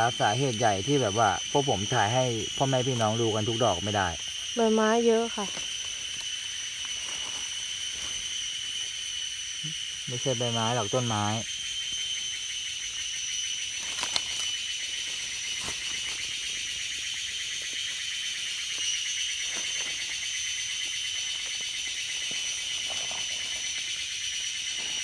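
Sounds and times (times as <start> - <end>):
forest insects trilling: 0.0 - 25.0.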